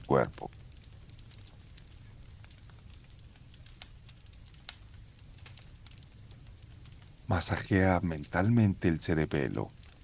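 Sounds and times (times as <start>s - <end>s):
campfire crackling and popping: 0.0s - 10.0s
crickets trilling: 0.0s - 10.0s.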